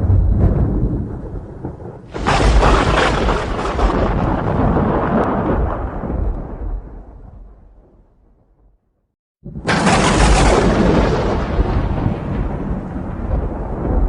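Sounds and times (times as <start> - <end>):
thunder booming: 0.0 - 8.8, 9.4 - 14.0.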